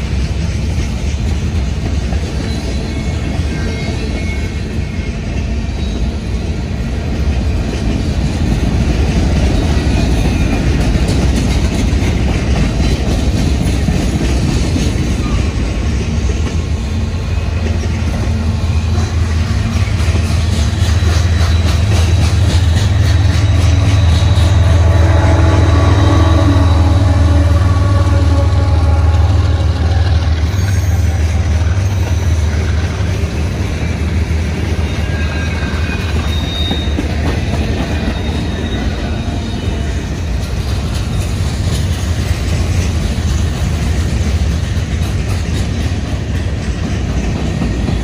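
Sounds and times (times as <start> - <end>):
locomotive engine hum: 0.0 - 48.0
steel wheels rumbling on rail: 0.0 - 48.0.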